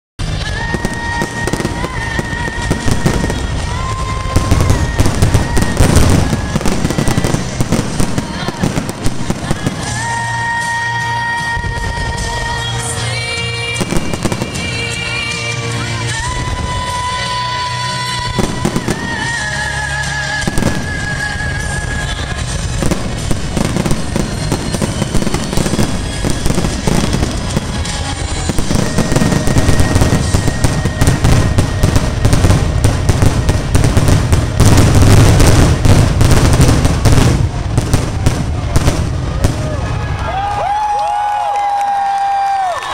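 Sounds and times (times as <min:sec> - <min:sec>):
fireworks bursting: 0:00.2 - 0:42.9
music playing: 0:00.2 - 0:42.9.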